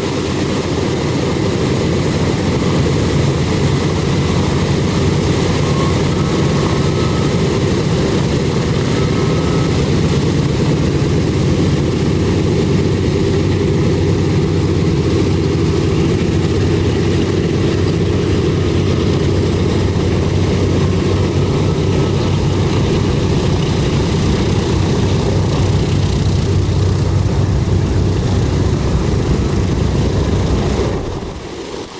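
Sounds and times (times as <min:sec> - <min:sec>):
radial aircraft engines running: 0:00.0 - 0:31.9.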